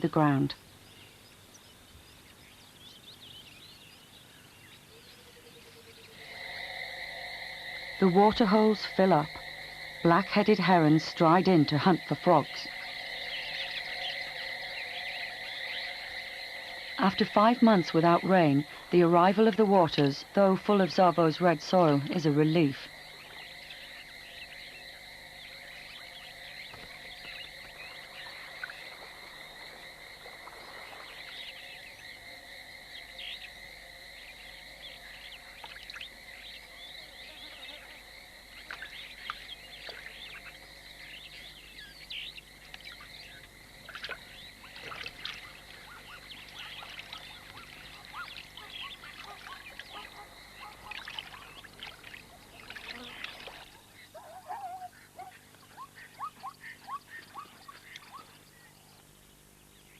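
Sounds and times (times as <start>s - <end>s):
frogs calling: 0.0s - 59.9s
frogs trilling: 0.0s - 59.9s.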